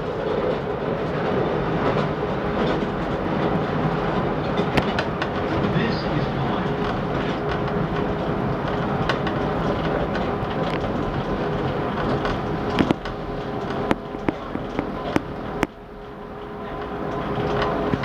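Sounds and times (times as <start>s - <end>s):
train rumble and hum: 0.0s - 18.0s
train wheels clanking: 0.0s - 18.0s.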